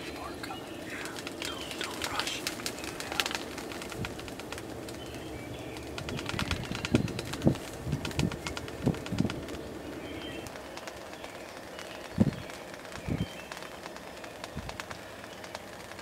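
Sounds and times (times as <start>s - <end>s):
high songbird calls: 0.0s - 16.0s
low cooing bird calls: 0.0s - 16.0s.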